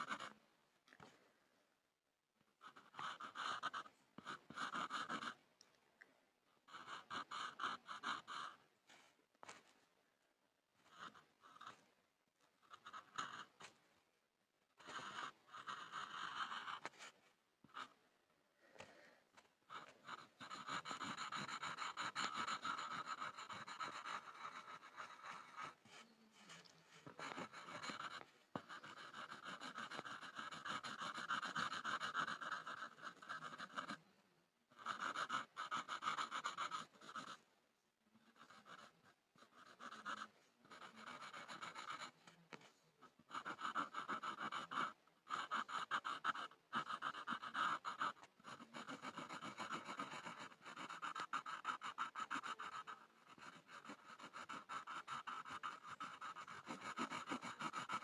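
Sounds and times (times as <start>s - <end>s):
pencil scribbling on a board: 0.0s - 0.4s, 2.6s - 5.4s, 6.7s - 9.7s, 10.8s - 11.9s, 12.6s - 13.8s, 14.8s - 18.0s, 19.7s - 34.1s, 34.7s - 37.5s, 38.2s - 58.0s.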